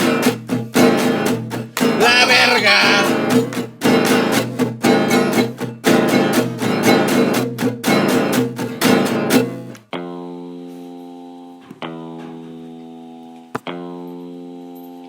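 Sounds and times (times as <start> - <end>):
guitar chords ringing out: 0.0 - 15.0
guitar strumming: 0.0 - 15.0.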